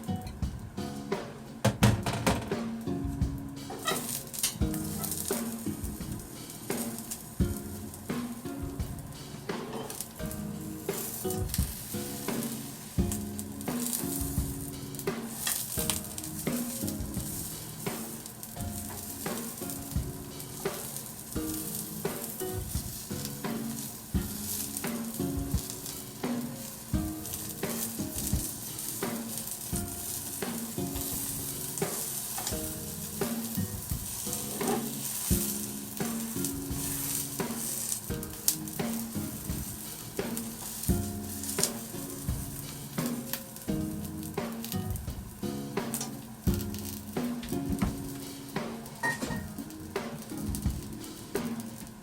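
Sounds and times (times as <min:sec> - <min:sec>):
oil sizzling in a frying pan: 0:02.8 - 0:52.0.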